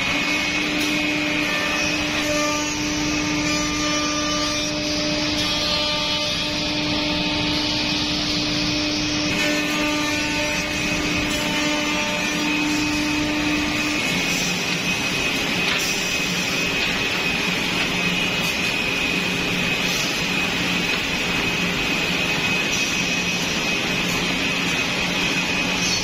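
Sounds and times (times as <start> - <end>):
machine running with high whine: 0.0 - 26.0.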